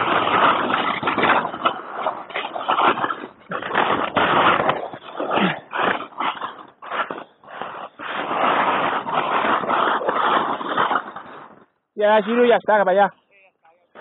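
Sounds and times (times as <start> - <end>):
skis rushing through powder snow: 0.0 - 12.5.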